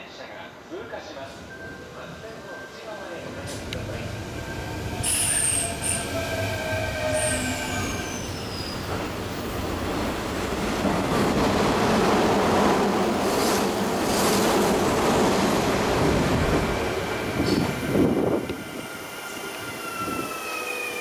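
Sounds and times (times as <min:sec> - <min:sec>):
high train whine: 0:00.2 - 0:21.0
train wheels rushing on rail: 0:03.2 - 0:21.0.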